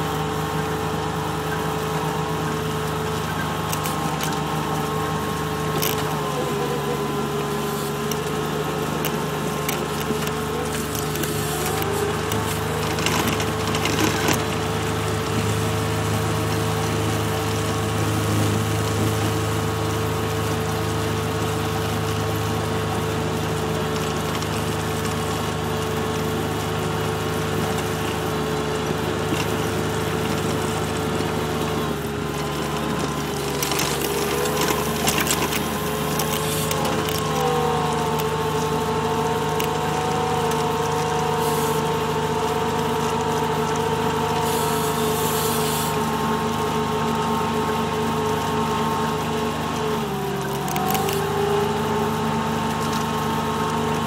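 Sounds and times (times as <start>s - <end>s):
diesel engine running: 0.0s - 54.0s
drivetrain and tracks whine: 0.0s - 54.0s.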